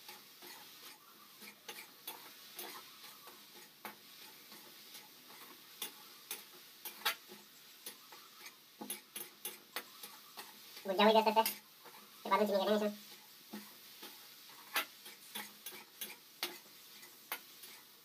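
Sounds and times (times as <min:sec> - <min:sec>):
faint hiss: 0:00.0 - 0:18.0
metal spatula scraping a pan: 0:00.0 - 0:18.0.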